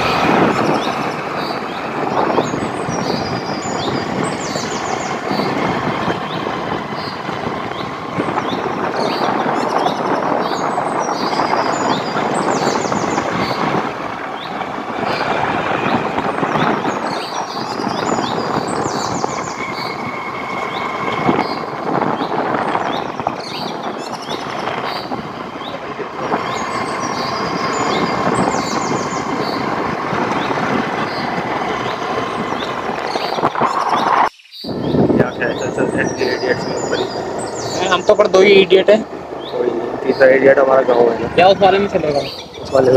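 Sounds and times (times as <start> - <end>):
birds chirping: 0.0 - 42.9
rushing outdoor noise: 0.0 - 42.9.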